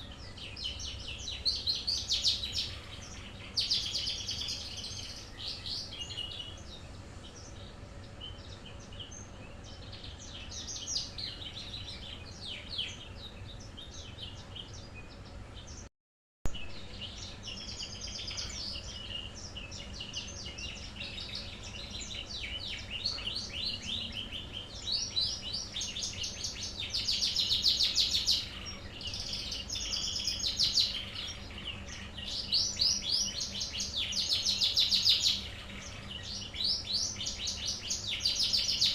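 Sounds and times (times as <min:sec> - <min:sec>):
bird chirping and trilling: 0:00.0 - 0:15.9, 0:16.6 - 0:38.9.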